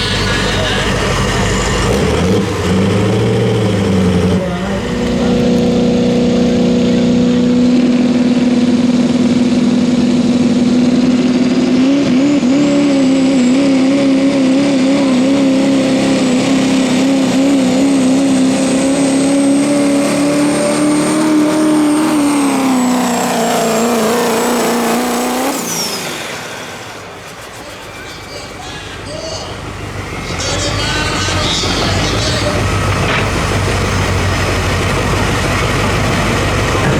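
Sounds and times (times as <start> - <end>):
diesel engine at full throttle: 0.0 - 36.9.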